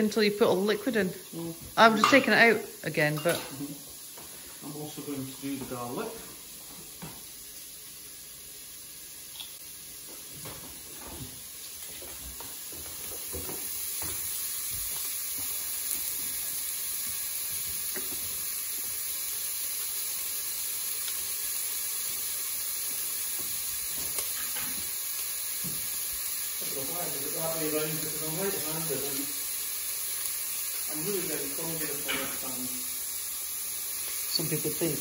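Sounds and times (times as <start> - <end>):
onion sizzling in hot oil: 0.0 - 35.0.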